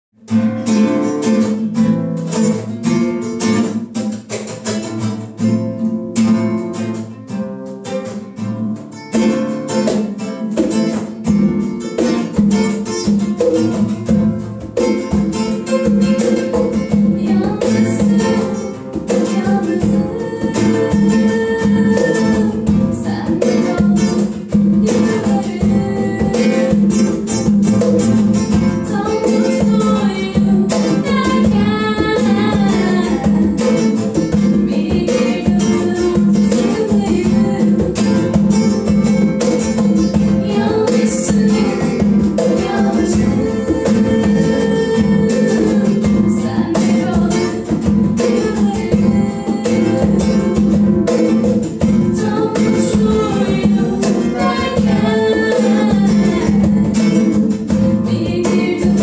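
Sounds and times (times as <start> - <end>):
acoustic guitar picking: 0.2 - 59.0
hand drum: 0.2 - 59.0.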